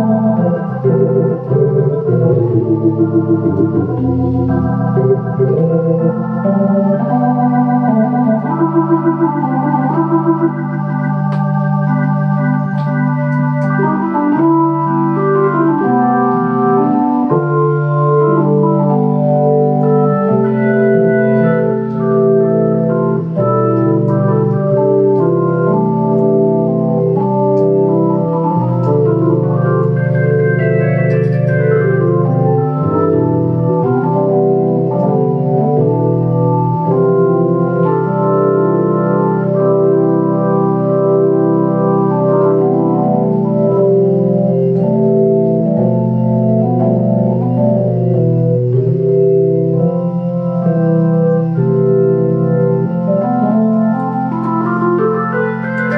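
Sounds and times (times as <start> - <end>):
organ playing sustained chords: 0.0 - 55.9.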